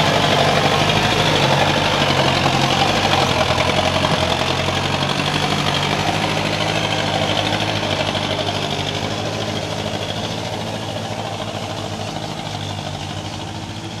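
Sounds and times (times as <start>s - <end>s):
diesel truck engine driving off: 0.0s - 14.0s.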